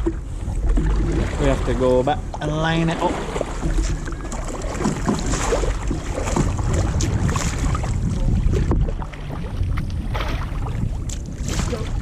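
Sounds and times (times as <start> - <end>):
kayak paddles splashing: 0.0 - 12.0
wind rumble on microphone: 0.0 - 12.0.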